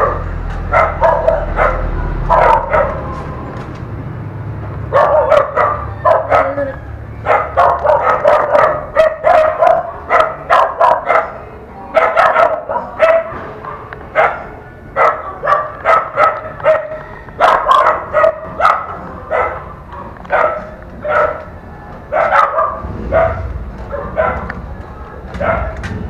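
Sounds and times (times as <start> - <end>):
dog barking: 0.0 - 3.2, 4.9 - 21.5, 22.1 - 24.6, 25.3 - 25.9.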